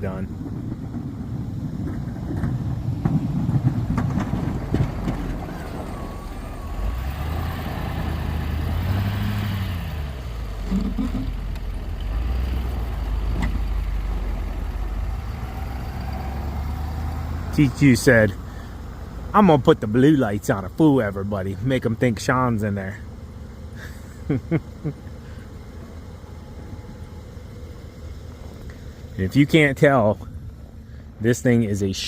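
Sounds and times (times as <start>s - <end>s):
pickup truck engine revving: 0.0s - 32.0s.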